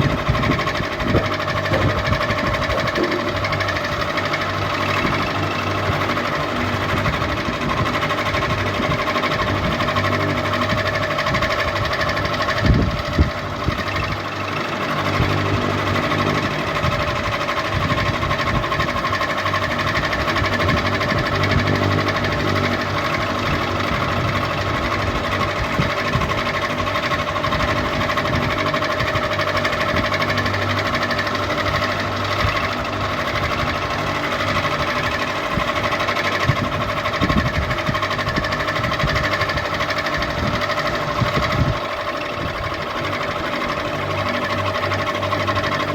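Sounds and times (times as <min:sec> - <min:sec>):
ceiling fan motor hum: 0:00.0 - 0:45.9.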